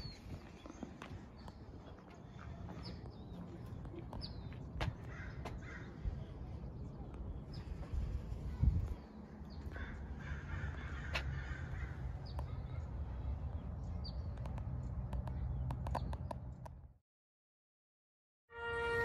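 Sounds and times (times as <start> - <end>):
birds calling: 0.0 - 6.5, 7.4 - 16.6.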